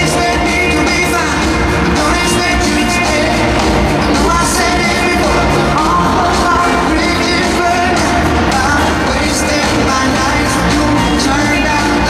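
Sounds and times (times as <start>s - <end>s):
live pop-rock band playing: 0.0s - 12.0s
man singing lead vocals: 0.0s - 12.0s.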